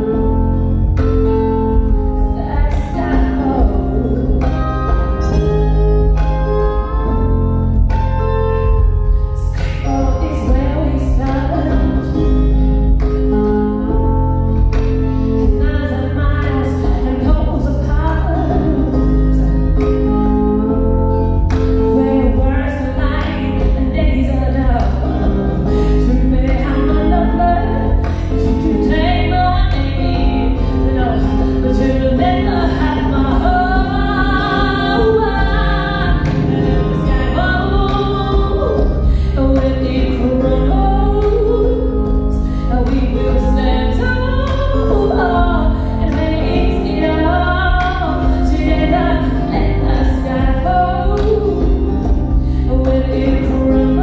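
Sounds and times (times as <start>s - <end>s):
continuous deep bass: 0.0s - 54.0s
plucked electric kantele: 0.0s - 54.0s
woman singing: 0.0s - 54.0s.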